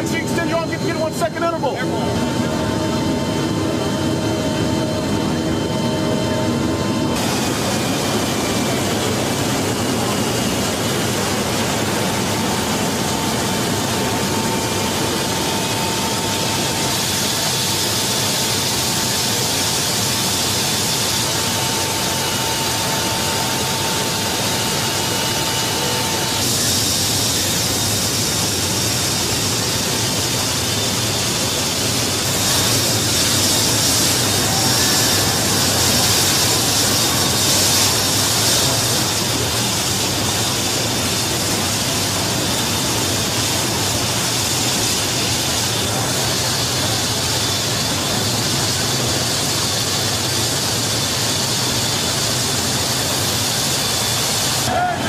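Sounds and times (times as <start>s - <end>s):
faint high whine: 0.0s - 55.0s
wind and jet engine roar: 0.0s - 55.0s.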